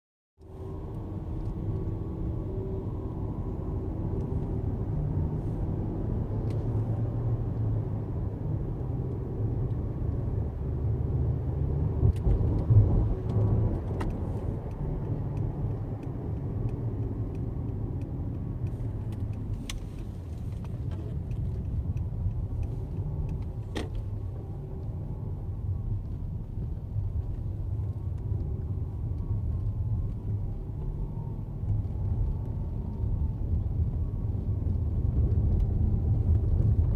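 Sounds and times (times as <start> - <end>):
road and engine rumble: 0.4 - 36.9.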